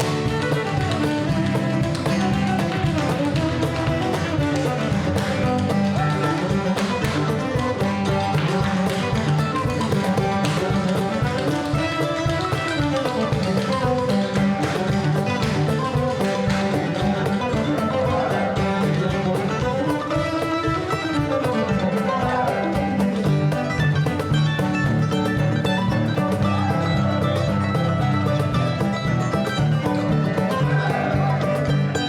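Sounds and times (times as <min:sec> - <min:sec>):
bluegrass string band instrumental: 0:00.0 - 0:32.0.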